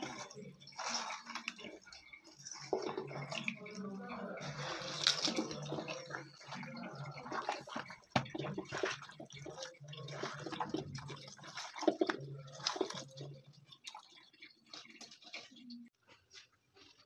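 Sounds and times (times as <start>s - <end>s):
hand kneading wet fish: 0.0s - 17.0s.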